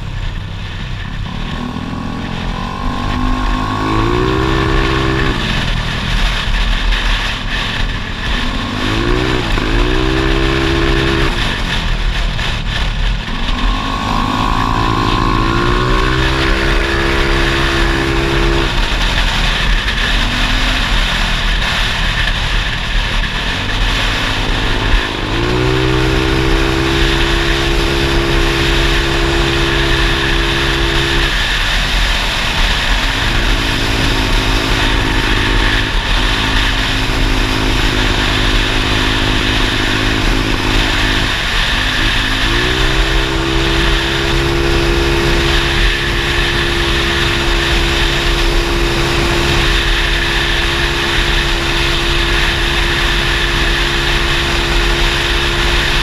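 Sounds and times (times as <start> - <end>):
small motorcycle engine: 0.0 - 56.0
wind rush over microphone: 0.0 - 56.0.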